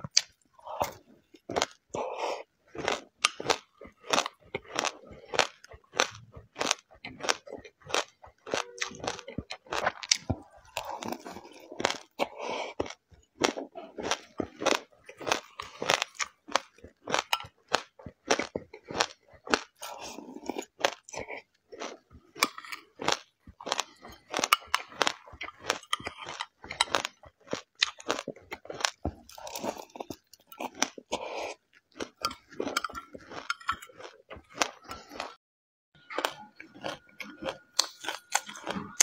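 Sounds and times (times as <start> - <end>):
person chewing seeds crunchily: 0.0 - 35.4, 36.0 - 39.0.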